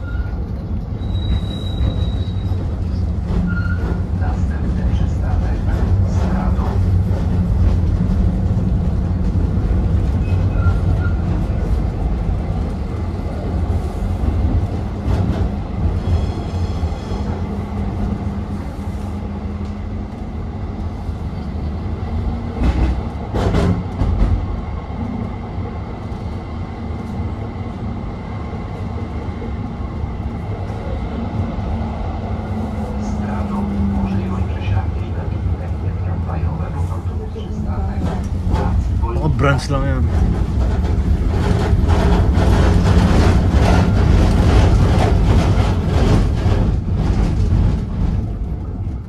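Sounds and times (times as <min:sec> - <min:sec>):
tram rumbling on rails: 0:00.0 - 0:49.0.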